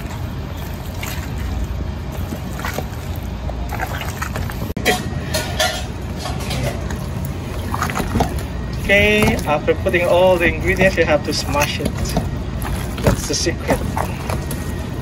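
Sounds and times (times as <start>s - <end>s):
avocado squishing: 0.0s - 4.7s, 6.8s - 15.0s
steady low hum: 0.0s - 15.0s.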